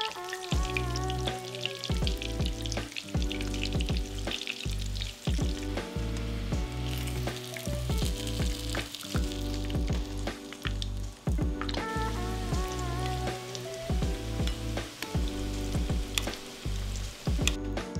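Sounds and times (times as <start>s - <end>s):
food frying in oil: 0.0s - 17.6s
background music with bass: 0.0s - 17.9s.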